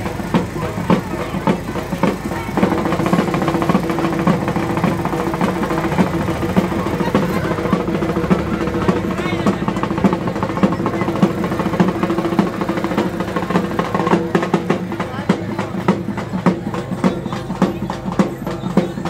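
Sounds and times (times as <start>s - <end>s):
crowd voices: 0.0s - 19.0s
loud music with rapid drumbeats: 0.0s - 19.0s.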